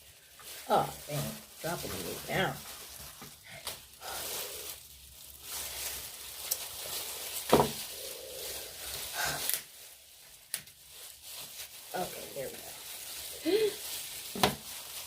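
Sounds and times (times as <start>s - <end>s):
wet rustling of crab shells: 0.0s - 15.0s.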